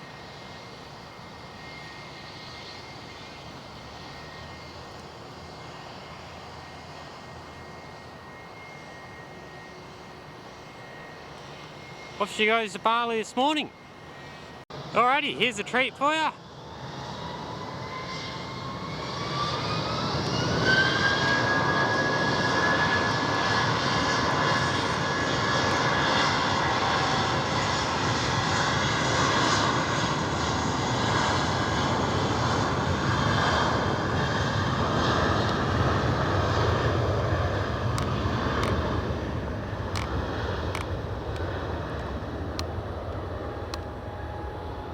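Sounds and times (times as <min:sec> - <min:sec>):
jet engine roar: 0:00.0 - 0:44.9
jet engine whine: 0:00.0 - 0:44.9.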